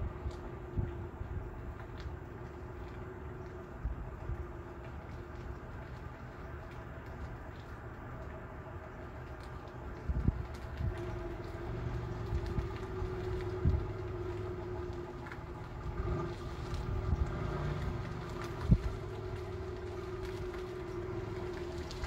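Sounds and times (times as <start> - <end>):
car engine running at low speed: 0.0 - 22.0.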